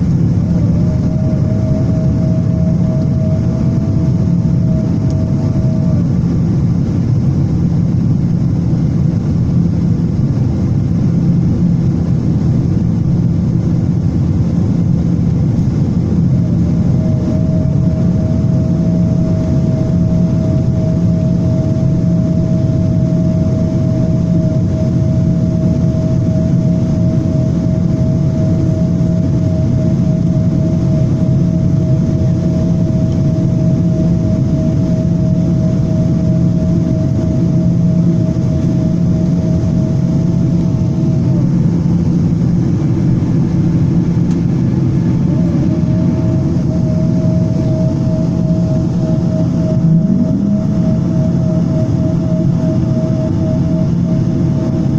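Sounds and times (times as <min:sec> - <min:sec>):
jet engine rumble in cabin: 0:00.0 - 0:54.9
thin steady whine: 0:00.0 - 0:54.9.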